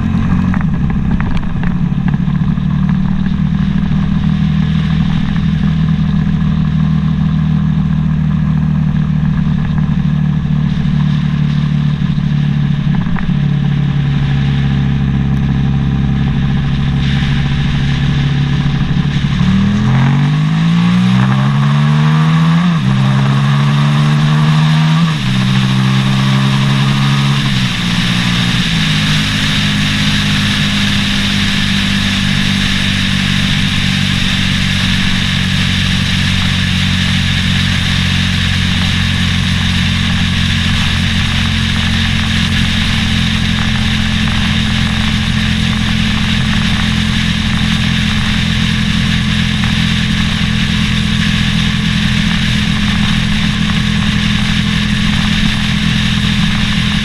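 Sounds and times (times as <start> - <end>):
motorcycle engine accelerating: 0.0 - 57.0
wind and road noise: 0.0 - 57.0.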